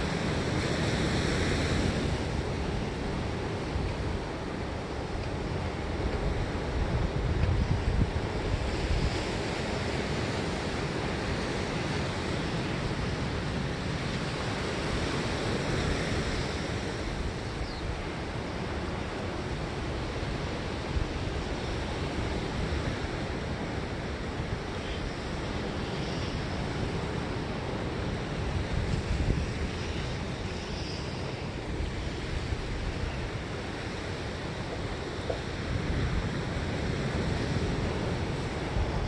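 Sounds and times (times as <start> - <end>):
waves breaking: 0.0 - 39.0
wind on microphone: 0.0 - 39.0.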